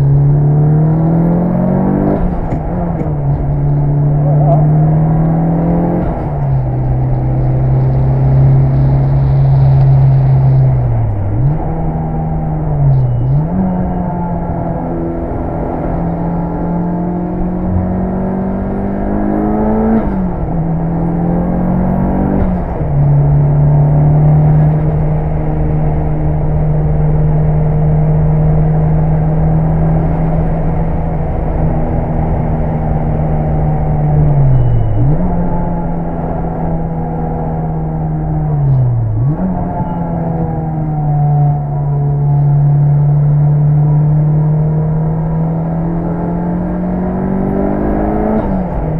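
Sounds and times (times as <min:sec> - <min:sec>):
turbocharged car engine revving: 0:00.0 - 0:48.9.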